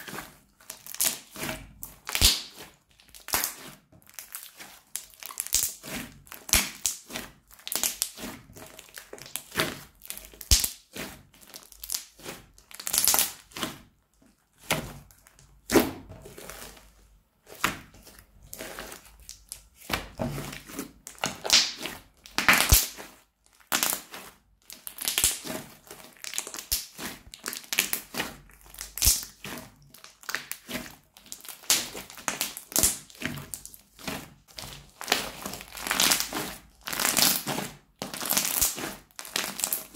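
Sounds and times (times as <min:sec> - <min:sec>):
crunchy slime crackling and popping: 0:00.0 - 0:39.9.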